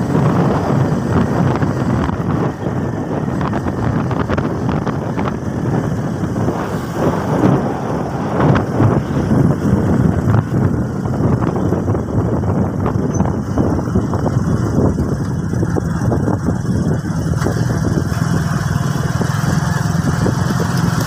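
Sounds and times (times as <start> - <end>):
motorcycle running: 0.0 - 21.0
wind buffeting microphone: 0.0 - 21.0.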